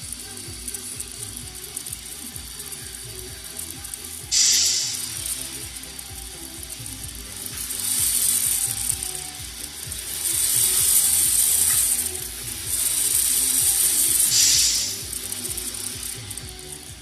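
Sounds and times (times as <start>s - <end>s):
model engine electric whir: 0.0s - 17.0s.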